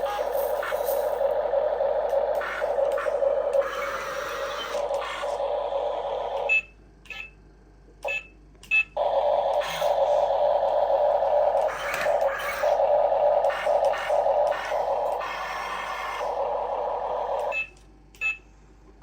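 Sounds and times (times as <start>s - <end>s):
electric motors and gears whirring: 0.0s - 7.4s, 8.0s - 18.3s.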